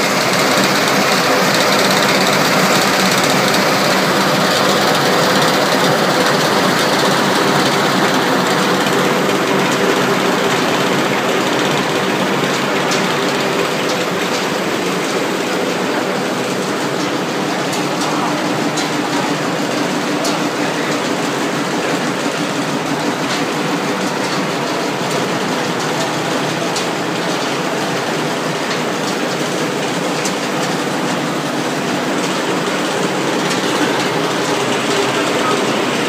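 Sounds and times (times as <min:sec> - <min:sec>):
pellet mill and conveyor din: 0:00.0 - 0:36.0.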